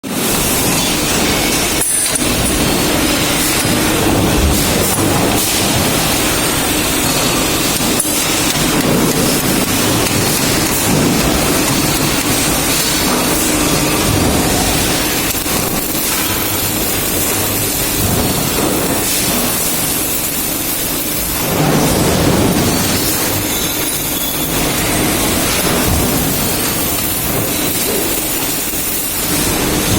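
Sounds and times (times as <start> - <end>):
welding arc crackling and hissing: 0.0 - 29.9.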